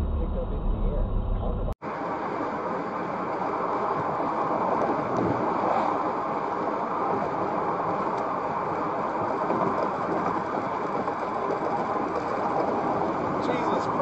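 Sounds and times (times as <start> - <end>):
car engine hum: 0.0 - 14.0
road and tyre noise: 0.0 - 14.0.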